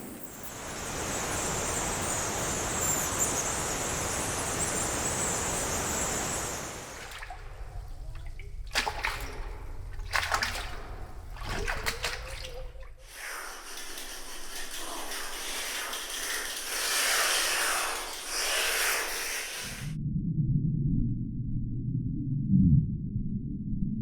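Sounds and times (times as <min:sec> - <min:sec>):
rushing water: 0:00.4 - 0:19.9
water splashing and dripping: 0:00.4 - 0:19.9.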